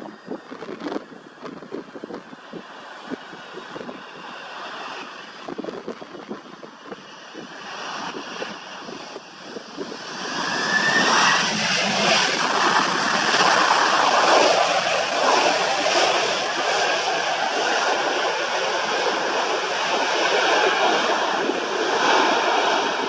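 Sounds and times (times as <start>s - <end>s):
airplane engine noise: 0.0s - 23.0s
wind buffeting microphone: 0.0s - 23.0s.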